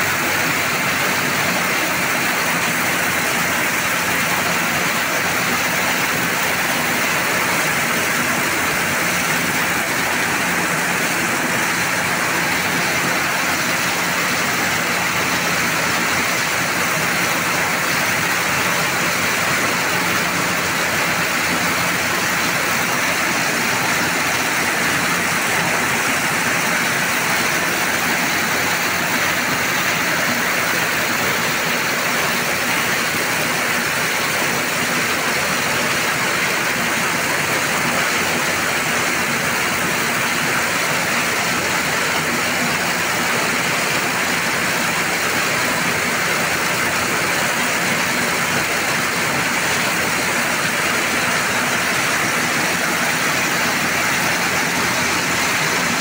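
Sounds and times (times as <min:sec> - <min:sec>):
harvester engine running: 0:00.0 - 0:37.6, 0:38.3 - 0:56.0.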